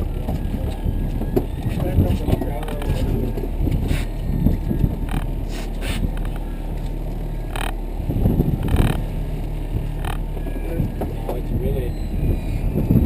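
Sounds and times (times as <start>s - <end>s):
boat motor running: 0.0s - 13.0s
water noise: 0.0s - 13.0s
wind: 0.0s - 13.0s.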